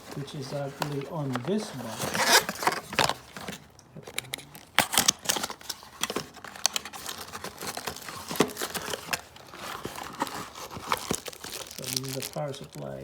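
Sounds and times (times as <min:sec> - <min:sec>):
plastic parts clicking and tapping: 0:00.0 - 0:12.9
packaging crinkling: 0:00.0 - 0:13.0.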